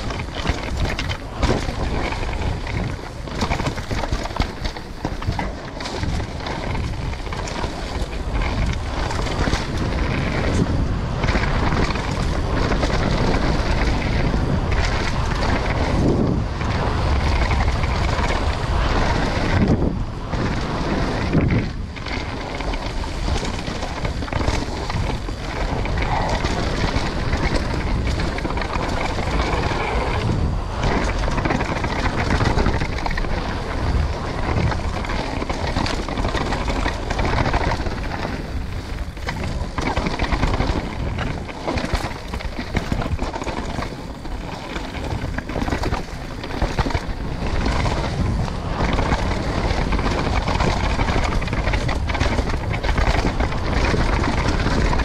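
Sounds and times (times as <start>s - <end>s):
bike clattering on trail: 0.0s - 55.0s
wind rushing over microphone: 0.0s - 55.0s.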